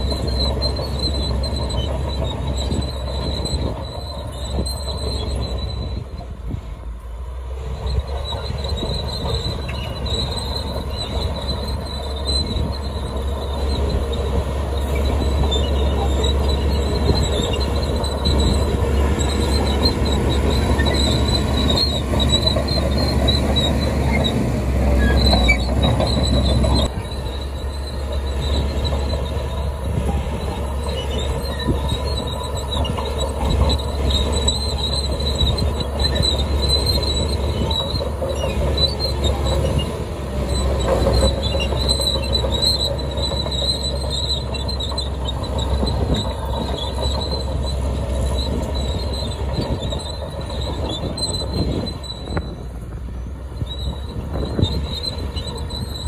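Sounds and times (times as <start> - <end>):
bulldozer diesel engine under load: 0.0 - 56.0
steel tracks squealing and clanking: 0.0 - 56.0.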